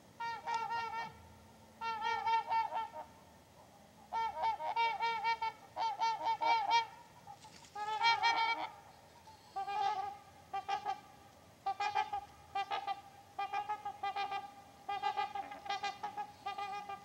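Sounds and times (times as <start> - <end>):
swans honking: 0.0 - 17.0.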